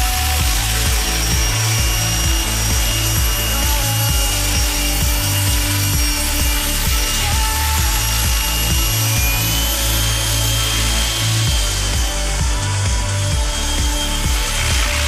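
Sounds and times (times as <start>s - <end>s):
model helicopter buzzing whine: 0.0s - 15.0s.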